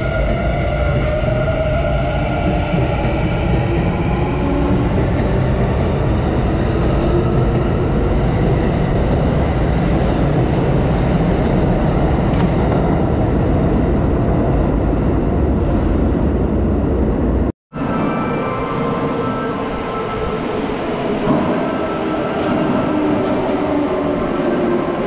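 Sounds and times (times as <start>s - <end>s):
rumble of train wheels: 0.0s - 25.0s.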